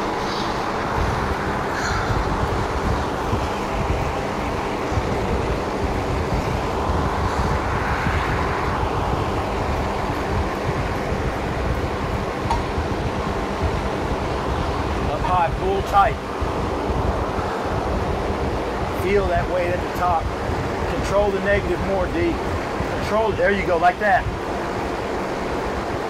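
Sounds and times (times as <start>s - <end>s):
drum fan running: 0.0s - 26.0s.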